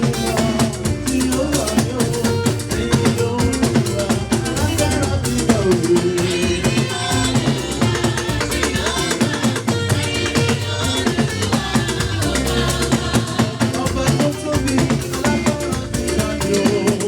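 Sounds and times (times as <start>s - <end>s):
drums and shakers beat: 0.0s - 17.0s.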